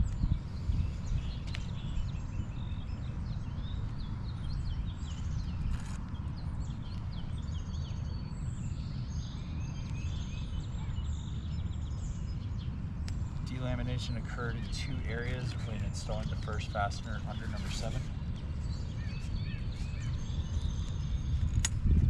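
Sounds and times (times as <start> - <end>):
birds chirping: 0.0 - 22.0
wind rumbling on microphone: 0.0 - 22.0.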